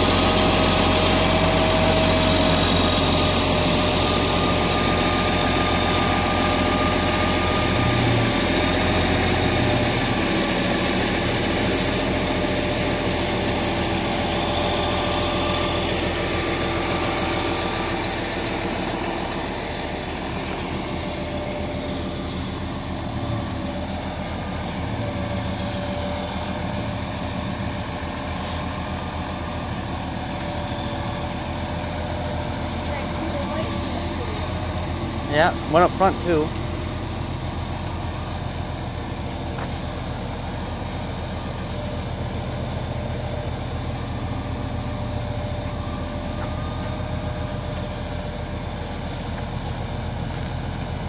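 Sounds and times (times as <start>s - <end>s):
wheel loader engine running: 0.0s - 51.0s.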